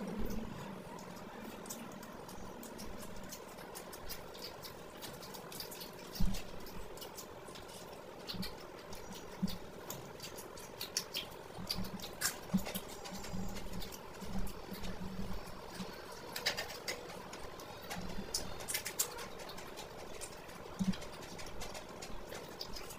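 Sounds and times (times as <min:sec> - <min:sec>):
chewing crunchy food: 0:00.0 - 0:22.9.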